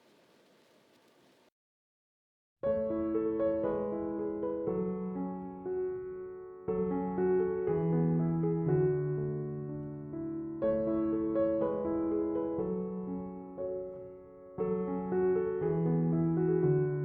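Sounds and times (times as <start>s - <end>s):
soft piano chords: 2.6s - 17.0s.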